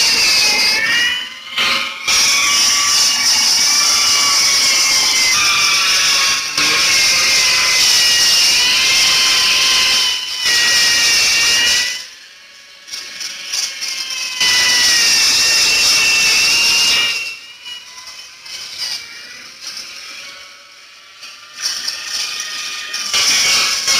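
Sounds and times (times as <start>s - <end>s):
power tool hissing and whining: 0.0s - 23.9s.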